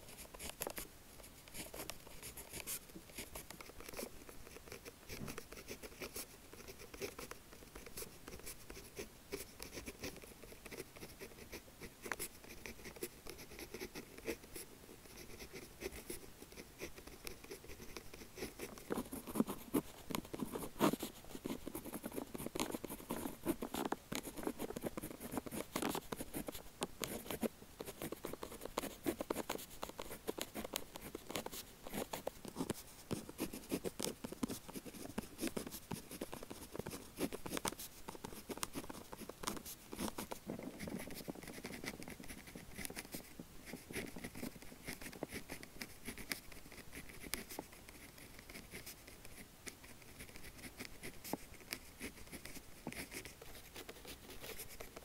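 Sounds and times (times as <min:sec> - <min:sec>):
pen scratching on paper: 0:00.0 - 0:55.0.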